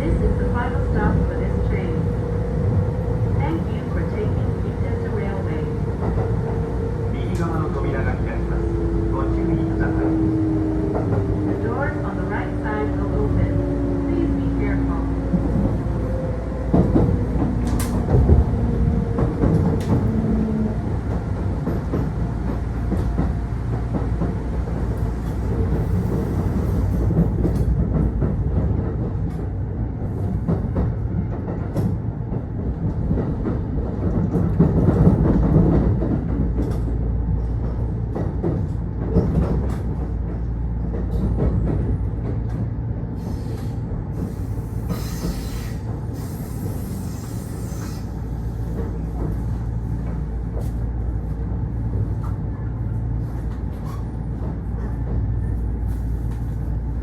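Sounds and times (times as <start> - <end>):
train wheels rumbling on rail: 0.0 - 57.0
rail joint clicks: 0.1 - 57.0.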